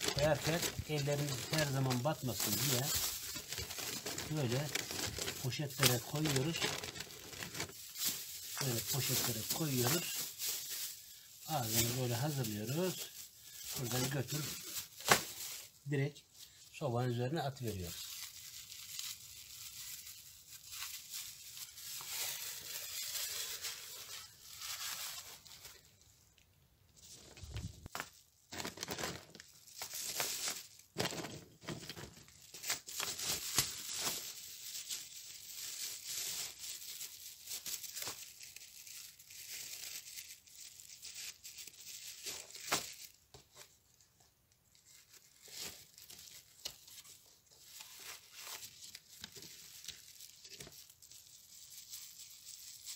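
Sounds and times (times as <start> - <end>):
plastic bags rustling: 0.0 - 26.1, 27.0 - 43.7, 44.8 - 52.9.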